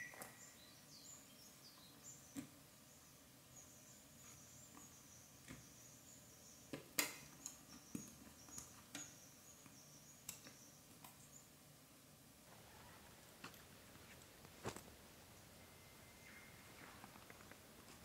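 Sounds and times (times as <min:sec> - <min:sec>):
faint high hiss: 0:00.0 - 0:18.0.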